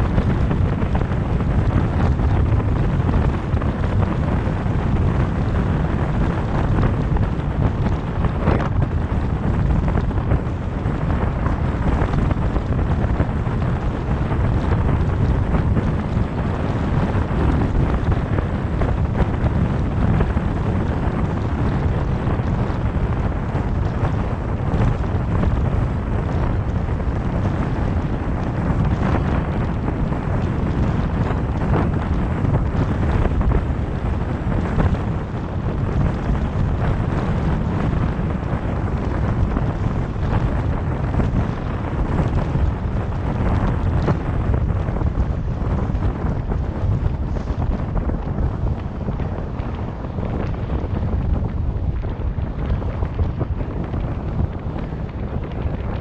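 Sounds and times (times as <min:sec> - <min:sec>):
car tyre and wind noise: 0:00.0 - 0:56.0
wind buffeting microphone: 0:00.0 - 0:56.0.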